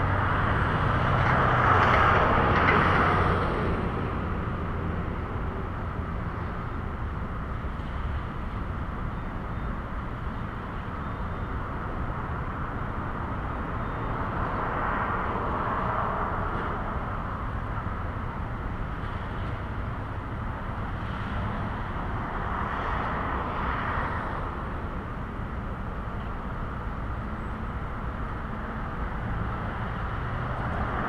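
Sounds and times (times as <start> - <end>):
distant road traffic: 0.0 - 31.0.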